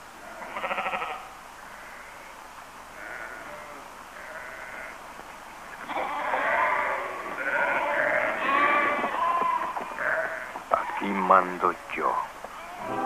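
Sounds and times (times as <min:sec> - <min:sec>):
sheep bleating: 0:00.2 - 0:02.3, 0:03.0 - 0:05.0, 0:05.8 - 0:13.0.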